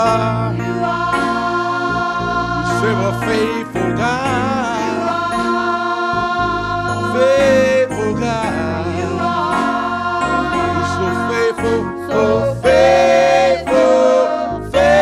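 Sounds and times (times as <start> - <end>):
keyboard chords and bass: 0.0 - 15.0
person singing gospel vocal run: 0.0 - 15.0.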